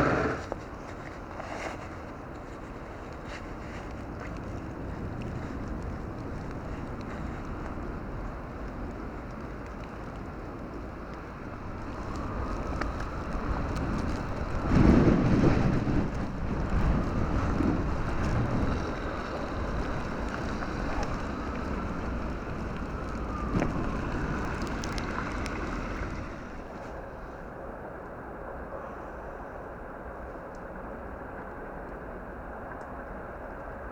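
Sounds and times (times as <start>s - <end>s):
vehicle passing on snow: 0.0s - 27.5s.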